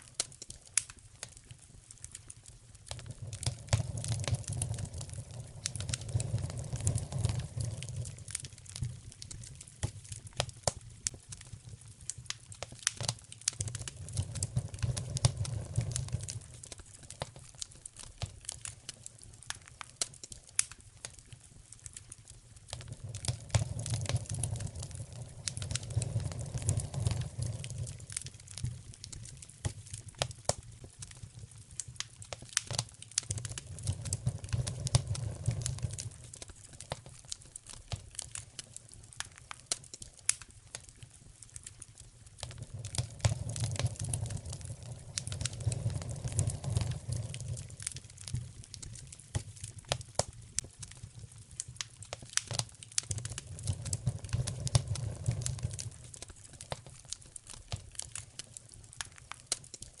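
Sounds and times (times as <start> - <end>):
low fire rumble: 0.0 - 60.0
wood fire crackling: 0.0 - 60.0.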